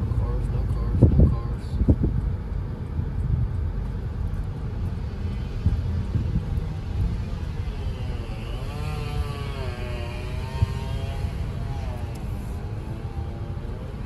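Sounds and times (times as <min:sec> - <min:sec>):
car cabin road rumble: 0:00.0 - 0:14.0
wavering pitched whine: 0:00.0 - 0:14.0.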